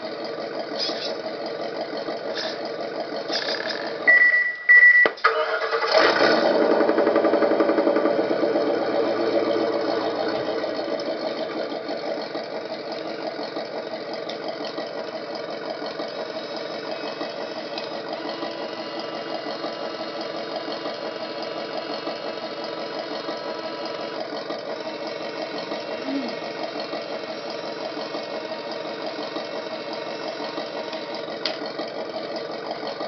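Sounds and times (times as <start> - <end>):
simulated truck engine idling: 0.0 - 4.6, 5.5 - 33.0.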